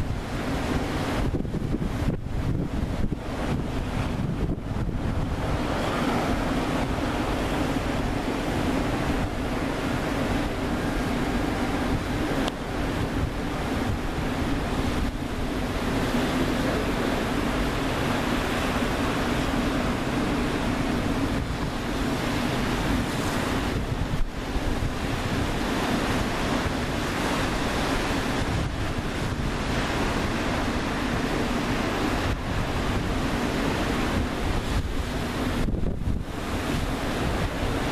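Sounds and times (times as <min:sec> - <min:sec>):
rushing sea water: 0:00.0 - 0:37.9
wind buffeting microphone: 0:00.0 - 0:37.9.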